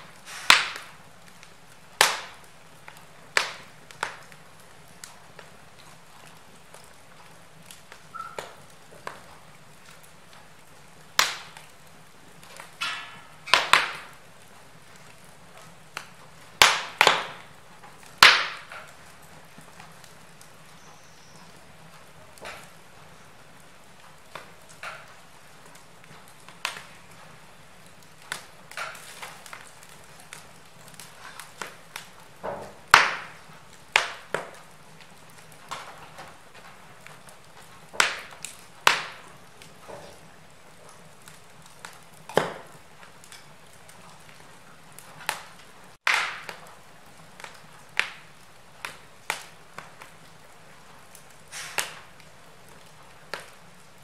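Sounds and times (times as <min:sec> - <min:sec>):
fire hissing: 0:00.0 - 0:54.0
wood fire crackling and popping: 0:00.0 - 0:54.0.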